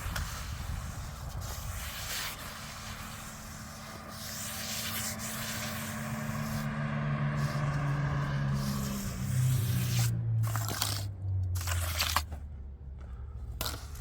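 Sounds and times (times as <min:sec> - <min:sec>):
engine humming: 0:01.0 - 0:14.0.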